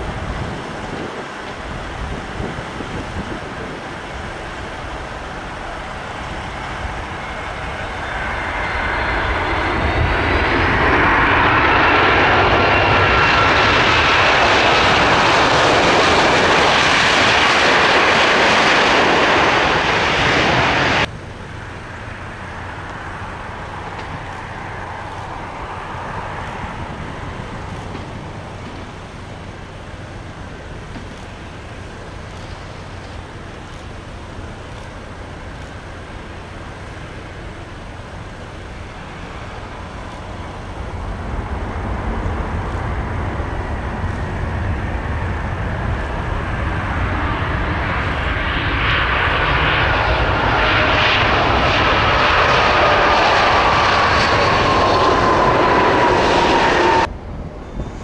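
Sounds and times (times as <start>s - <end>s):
engine and traffic rumble: 0.0s - 58.0s
jet airliner engines passing: 0.0s - 58.0s.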